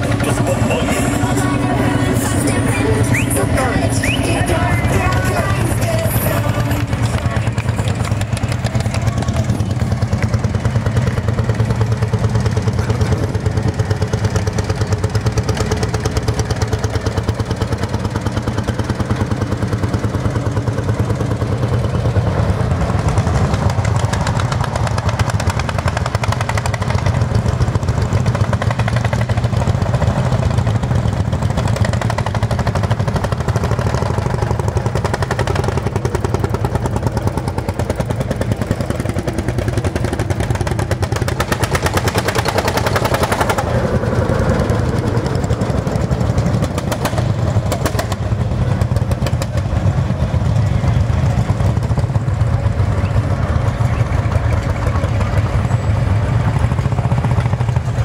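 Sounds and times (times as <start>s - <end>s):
tractor engine thumping: 0.0s - 58.0s.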